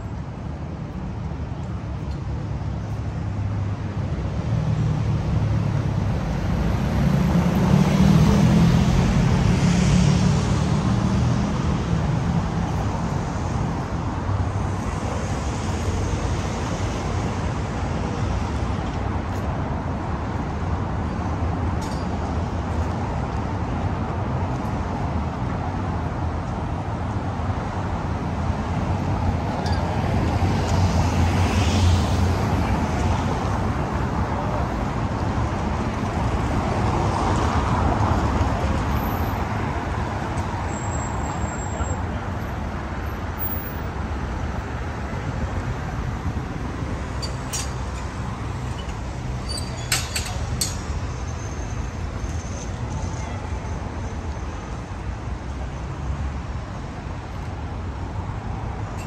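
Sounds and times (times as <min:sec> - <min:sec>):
road noise from passing cars: 0:00.0 - 0:59.0.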